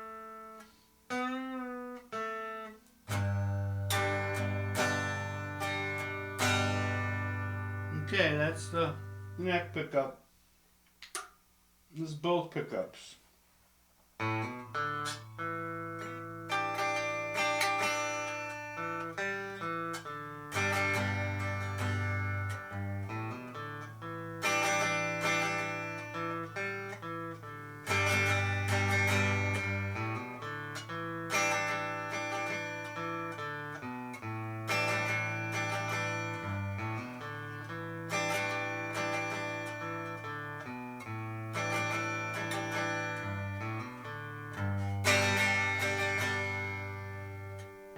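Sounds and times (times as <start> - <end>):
electric guitar ringing chords: 0.0 - 10.1, 14.2 - 47.9.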